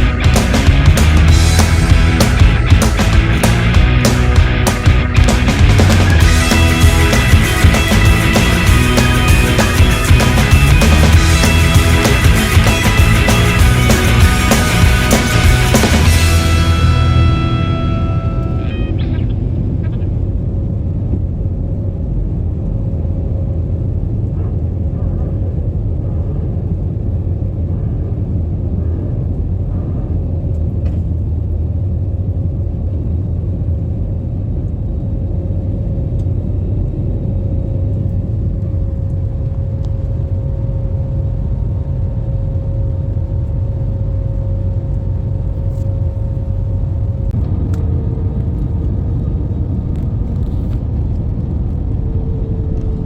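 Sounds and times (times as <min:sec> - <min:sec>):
air-conditioning airflow: 0:00.0 - 0:53.0
low rumble of engines: 0:00.0 - 0:53.0
steady hum: 0:00.0 - 0:53.0.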